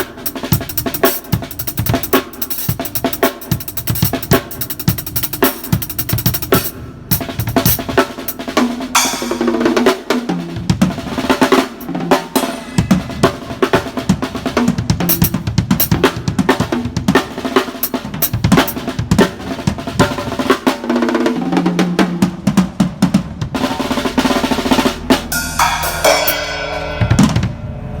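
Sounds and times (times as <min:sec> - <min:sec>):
drum kit rolls: 0:00.0 - 0:28.0.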